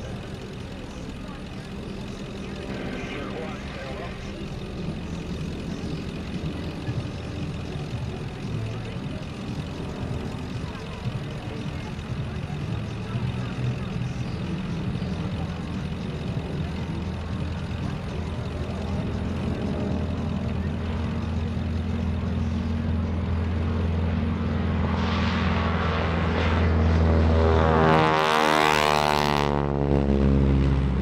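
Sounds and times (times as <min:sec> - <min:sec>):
radial aircraft engine at full power: 0:00.0 - 0:31.0.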